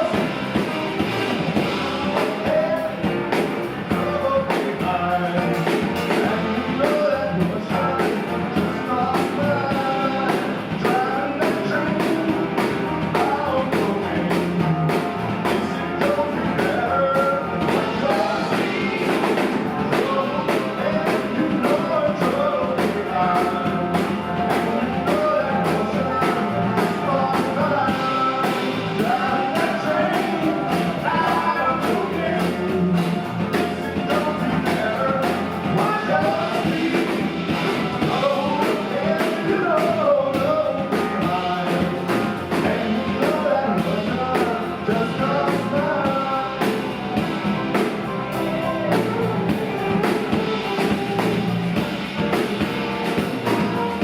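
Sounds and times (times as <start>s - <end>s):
live rock band playing: 0.0s - 54.0s
steady drum beat: 0.0s - 54.0s.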